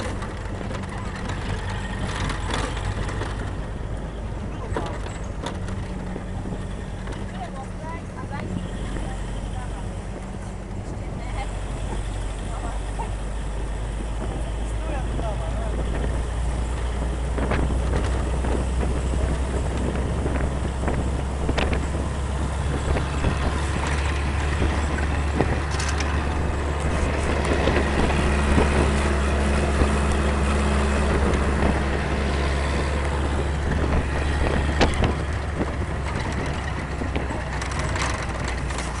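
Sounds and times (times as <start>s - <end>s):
engine droning: 0.0s - 39.0s
wind and road noise: 0.0s - 39.0s.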